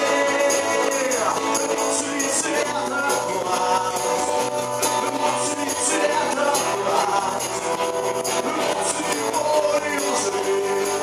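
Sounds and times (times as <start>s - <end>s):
electric bass: 0.0s - 11.0s
electric guitar: 0.0s - 11.0s
tambourine jingling: 0.0s - 11.0s.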